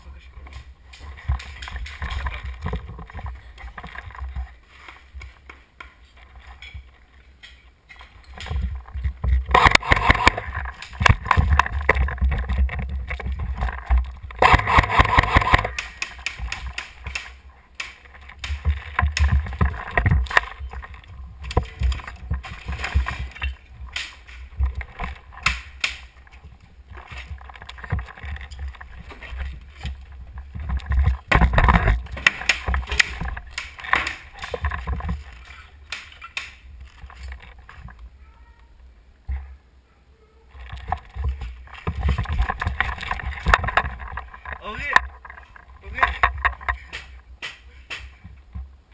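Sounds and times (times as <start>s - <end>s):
footsteps over broken tiles: 0.0s - 38.1s, 40.6s - 48.9s.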